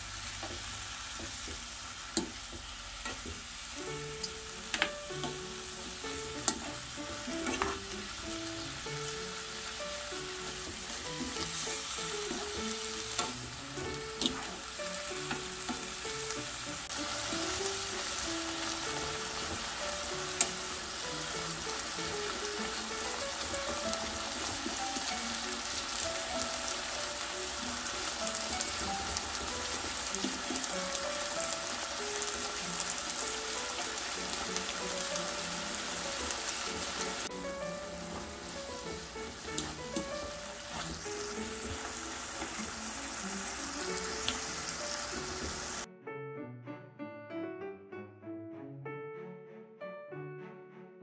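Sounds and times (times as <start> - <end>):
meat sizzling in a frying pan: 0.0 - 45.9.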